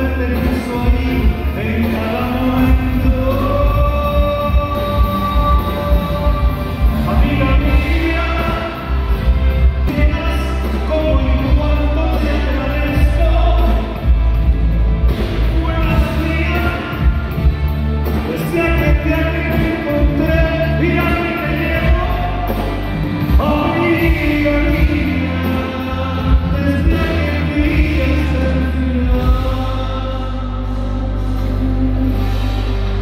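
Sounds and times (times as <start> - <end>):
live rock band playing: 0.0 - 33.0
man singing: 0.0 - 33.0.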